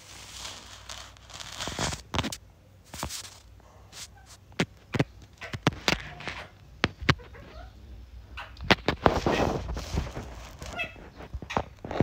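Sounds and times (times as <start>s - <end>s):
soft crackling rustle: 0.0s - 7.7s, 8.6s - 12.0s.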